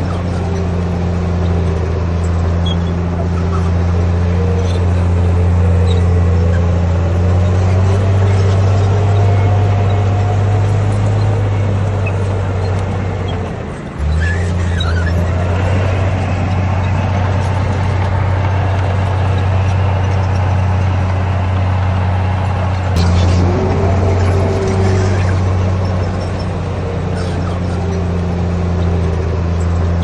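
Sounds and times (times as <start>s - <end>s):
bulldozer diesel engine humming: 0.0s - 30.0s.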